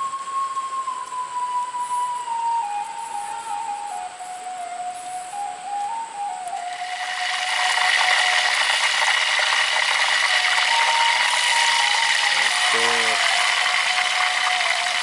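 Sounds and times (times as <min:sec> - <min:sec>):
quiet music melody: 0:00.0 - 0:09.6, 0:10.2 - 0:15.0
insects buzzing: 0:00.0 - 0:15.0.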